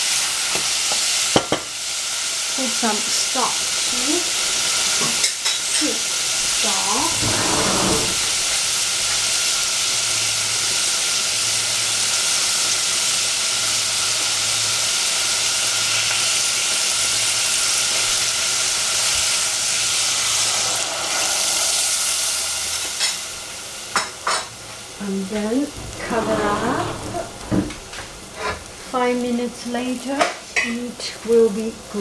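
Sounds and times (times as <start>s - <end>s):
beans sizzling in a pot: 0.0s - 32.0s.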